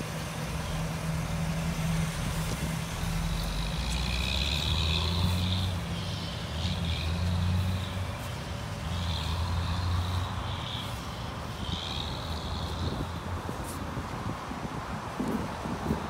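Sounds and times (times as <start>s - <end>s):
pickup truck engine idling: 0.0s - 14.1s.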